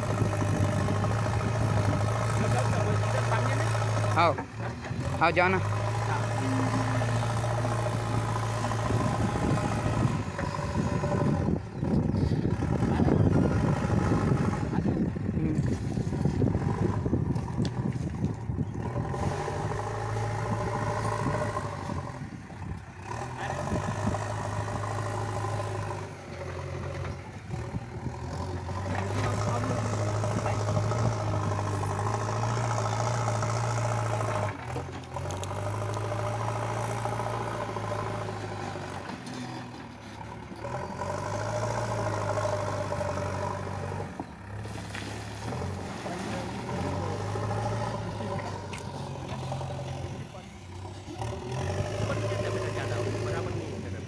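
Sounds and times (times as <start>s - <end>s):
backhoe diesel engine under load: 0.0s - 54.0s.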